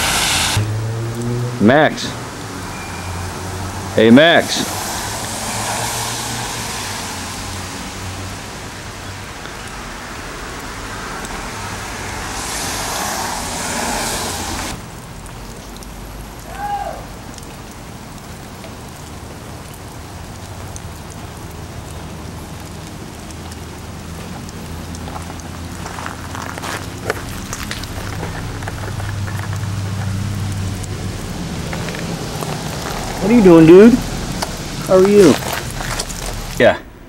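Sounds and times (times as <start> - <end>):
rain on wet ground: 0.0 - 37.0.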